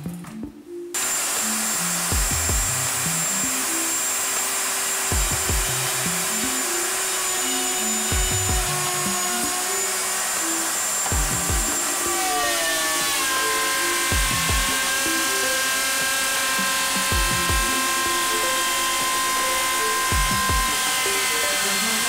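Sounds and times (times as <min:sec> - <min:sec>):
high whine: 0:01.0 - 0:22.0
router cutting plywood: 0:01.0 - 0:22.0.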